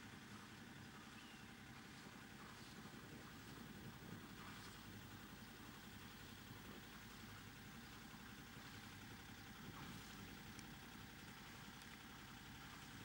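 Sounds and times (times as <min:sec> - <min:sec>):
boat engine running at low revs: 0:00.0 - 0:13.0.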